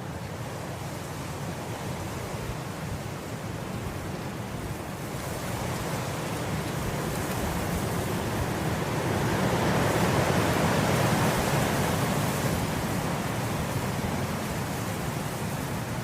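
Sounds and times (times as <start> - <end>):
wind blowing through grass: 0.0 - 16.0.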